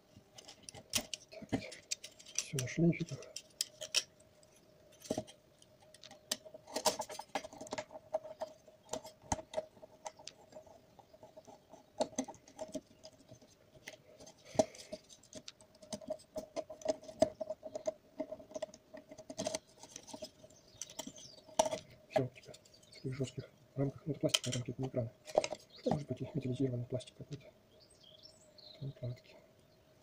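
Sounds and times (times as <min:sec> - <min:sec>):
plastic parts clicking and scraping: 0:00.1 - 0:26.5.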